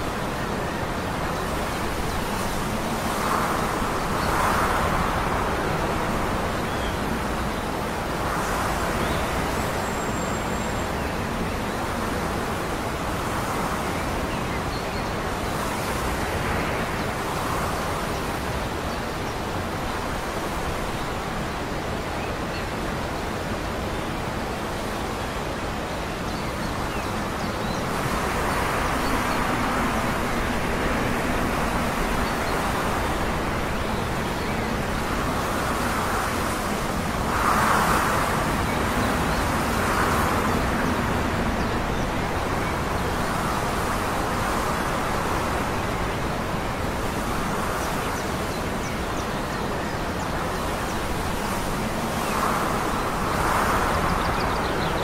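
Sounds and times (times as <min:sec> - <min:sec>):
rushing outdoor noise: 0:00.0 - 0:55.0.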